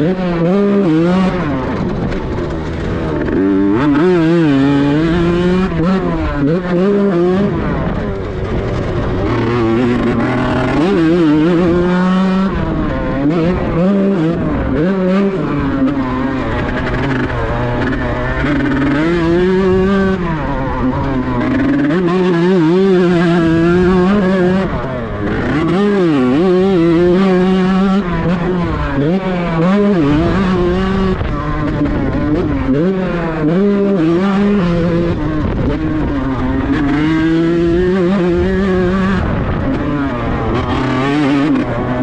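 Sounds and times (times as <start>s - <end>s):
two-stroke motorcycle engine revving: 0.0s - 42.0s.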